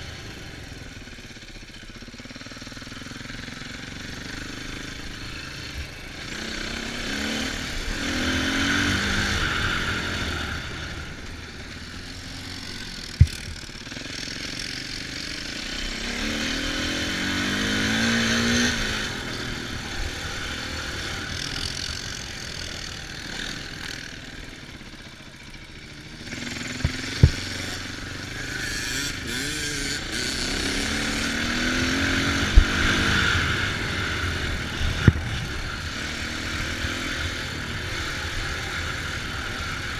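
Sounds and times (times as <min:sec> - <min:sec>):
off-road vehicle engine revving: 0:02.4 - 0:39.9.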